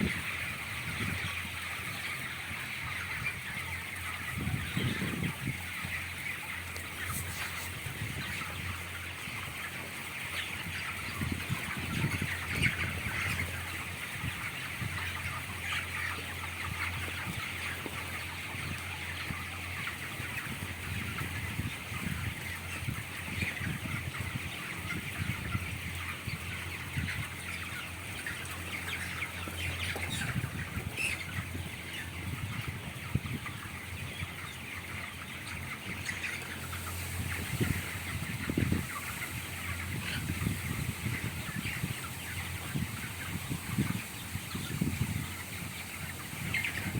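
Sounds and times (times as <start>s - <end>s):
chickens calling and clucking: 0.0s - 46.9s.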